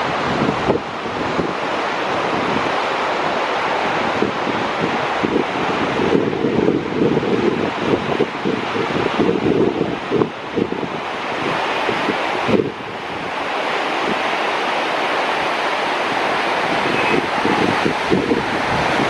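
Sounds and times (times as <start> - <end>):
waterfall rushing: 0.0 - 19.0
wind buffeting microphone: 0.0 - 19.0.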